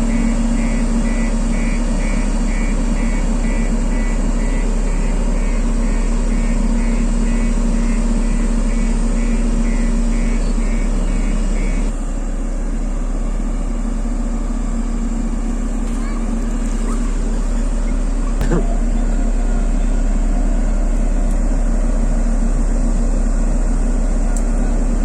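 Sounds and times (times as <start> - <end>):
road roller diesel engine running: 0.0 - 25.0.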